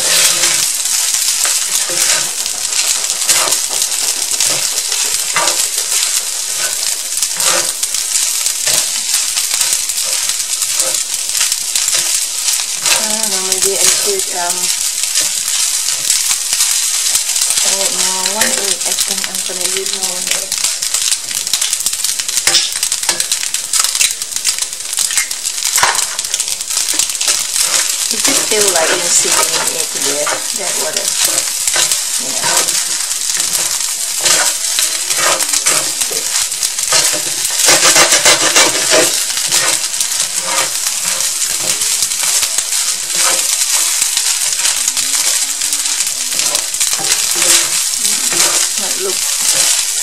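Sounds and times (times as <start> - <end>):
utensils scraping and tapping pan: 0.0 - 12.2, 12.8 - 16.3, 17.2 - 21.7, 22.4 - 50.0
rice sizzling in a skillet: 0.0 - 50.0.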